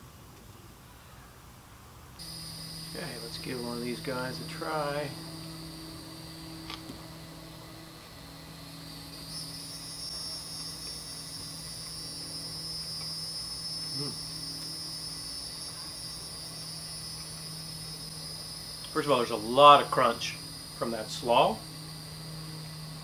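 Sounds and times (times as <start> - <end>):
low steady hum: 0.0 - 23.0
high-pitched insect chorus: 2.2 - 23.0.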